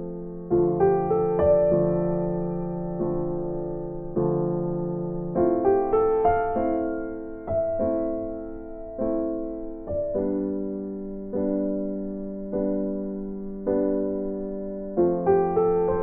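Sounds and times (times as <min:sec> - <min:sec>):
slow calm piano music: 0:00.0 - 0:16.0.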